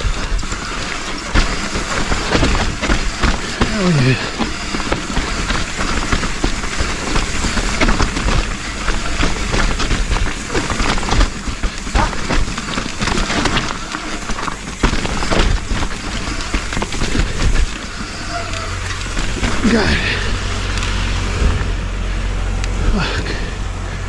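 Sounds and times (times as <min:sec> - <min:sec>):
bike rattling and clattering: 0:00.0 - 0:24.0
bike tyres rolling over mud: 0:00.0 - 0:24.0.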